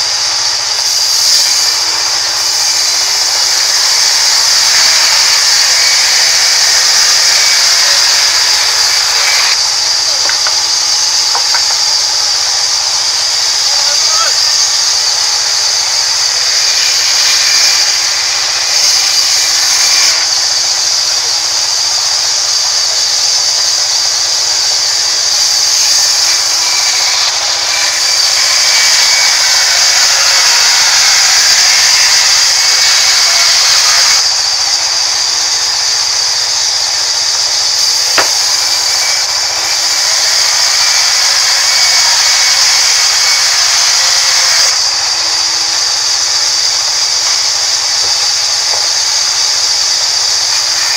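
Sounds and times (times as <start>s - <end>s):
band saw whine cutting log: 0.0s - 50.9s.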